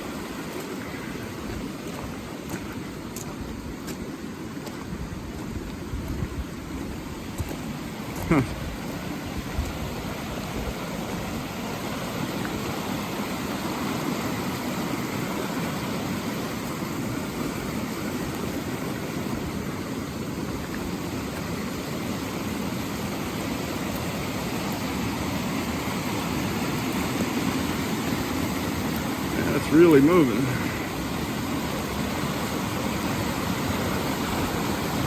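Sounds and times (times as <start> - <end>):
creek rushing: 0.0 - 35.0.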